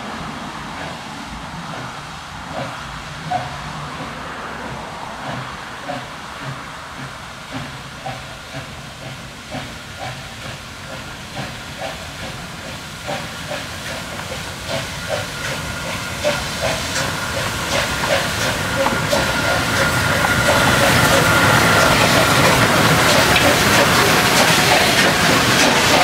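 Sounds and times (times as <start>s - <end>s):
steam hiss: 0.0s - 26.0s
steam locomotive exhaust beats: 0.0s - 26.0s.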